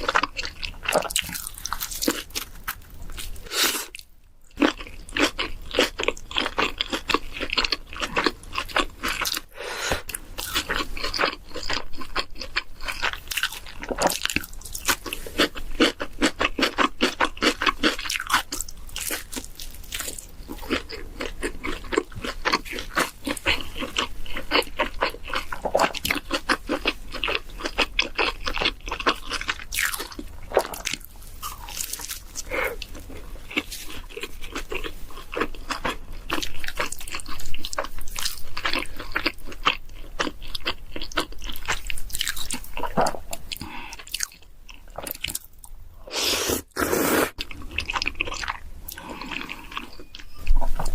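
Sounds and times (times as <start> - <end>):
chewing and crunching food: 0.0 - 45.8, 47.3 - 50.9.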